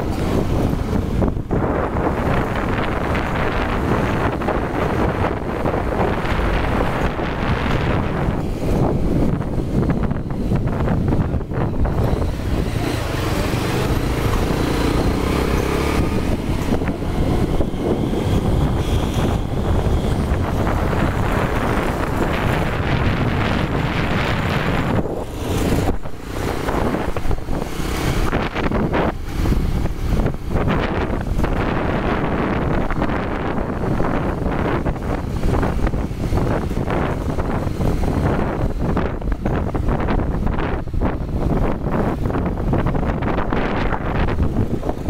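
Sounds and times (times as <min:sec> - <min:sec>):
motorcycle running: 0:00.0 - 0:45.0
wind rushing over microphone: 0:00.0 - 0:45.0.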